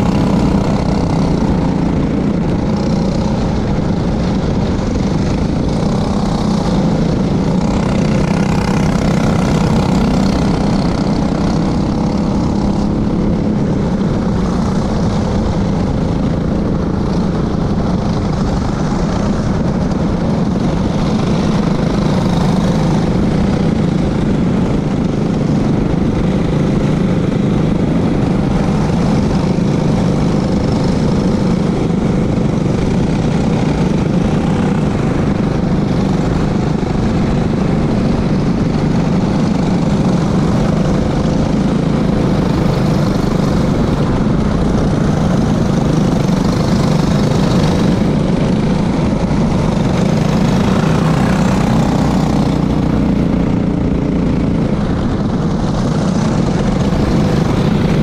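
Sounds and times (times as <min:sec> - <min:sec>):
go-kart engines running hard: 0:00.0 - 0:58.0
rushing noise: 0:00.0 - 0:58.0.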